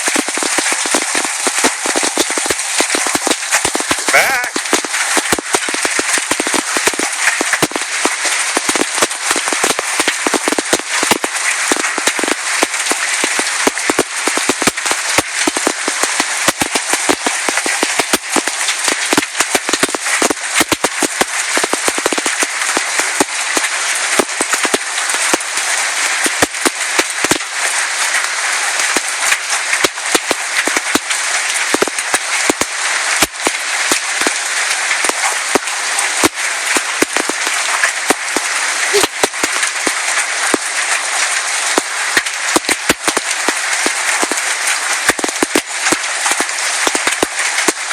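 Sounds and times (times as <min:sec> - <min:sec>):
hail falling: 0:00.0 - 0:47.9
hailstones knocking hard surfaces: 0:00.0 - 0:47.9.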